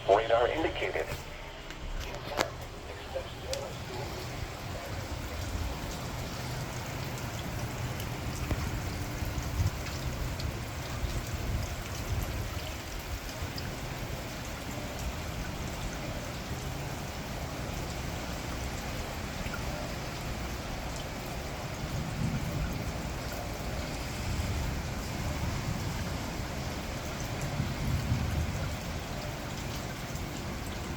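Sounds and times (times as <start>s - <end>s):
heavy rain pouring: 0.0s - 30.9s
rain drop ticks: 0.8s - 30.9s.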